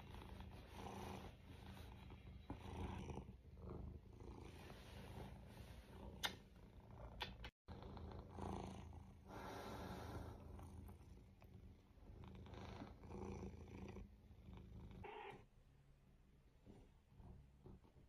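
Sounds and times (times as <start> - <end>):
cat purring: 0.0 - 15.4.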